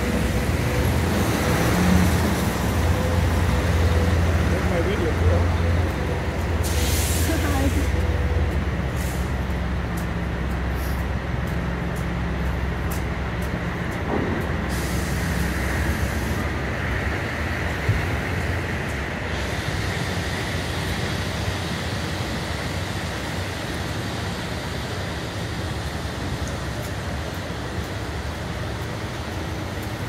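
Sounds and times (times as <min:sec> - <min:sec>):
city street noise: 0:00.0 - 0:30.0
heavy vehicle engine running: 0:00.0 - 0:30.0.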